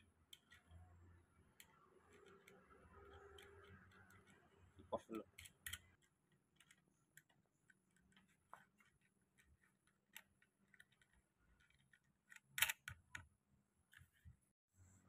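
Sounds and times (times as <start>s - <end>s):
small metallic clicks and taps: 0.1s - 13.3s.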